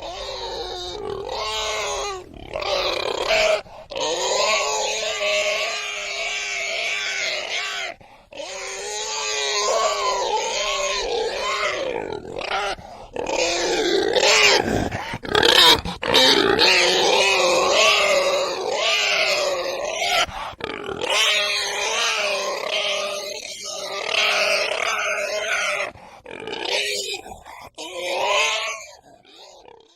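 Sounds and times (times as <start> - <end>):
pigs grunting and squealing: 0.0 - 29.9.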